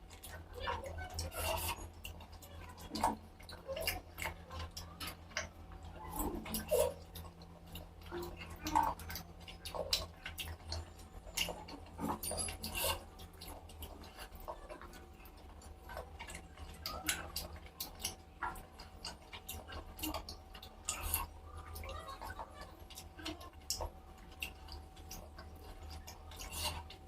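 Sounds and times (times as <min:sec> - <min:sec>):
chewing and mouth clicks: 0:00.0 - 0:27.0
low steady hum: 0:00.0 - 0:27.0.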